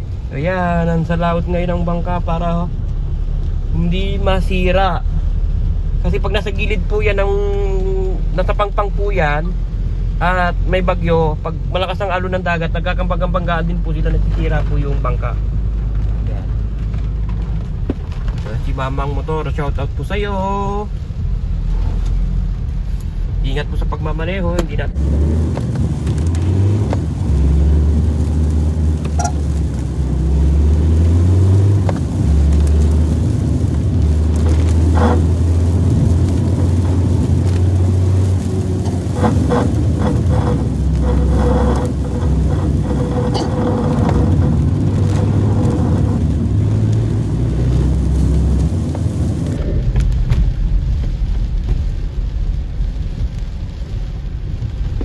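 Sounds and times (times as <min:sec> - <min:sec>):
car engine humming: 0:00.0 - 0:55.0
road rumble: 0:00.0 - 0:55.0.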